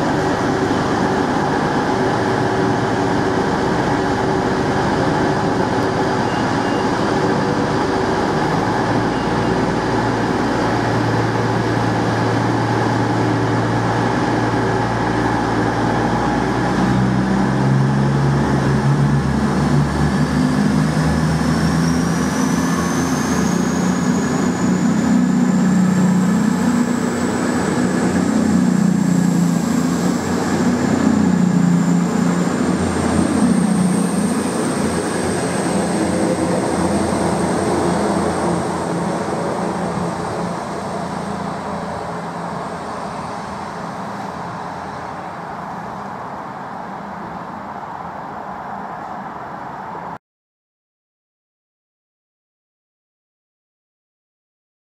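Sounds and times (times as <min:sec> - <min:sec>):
high whine rising in pitch: 0:00.0 - 0:45.1
diesel train engines: 0:00.0 - 0:50.2.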